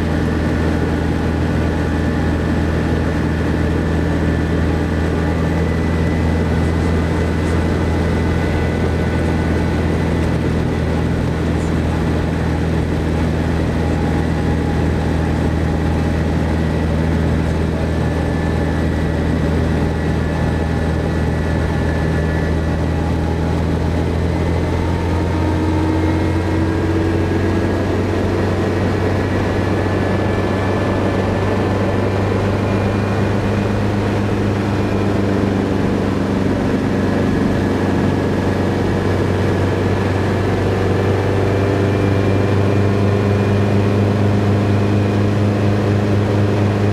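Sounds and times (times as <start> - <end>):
helicopter engine and rotor: 0.0 - 46.9.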